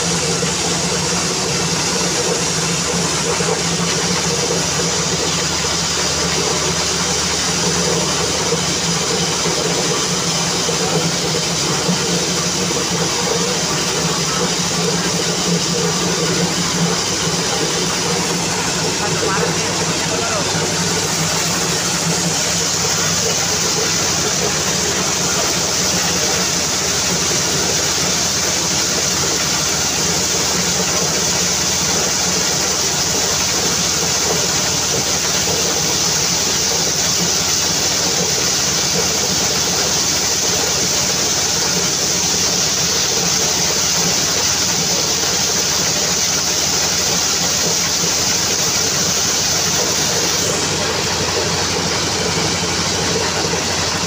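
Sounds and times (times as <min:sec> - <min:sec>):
corn cobs rattling in drum: 0:00.0 - 0:54.0
engine hum: 0:00.0 - 0:54.0.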